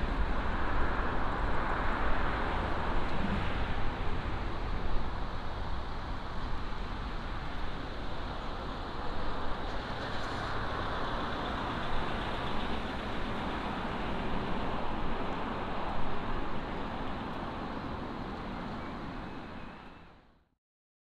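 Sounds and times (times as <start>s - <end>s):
jet airliner engines roaring: 0.1s - 20.0s.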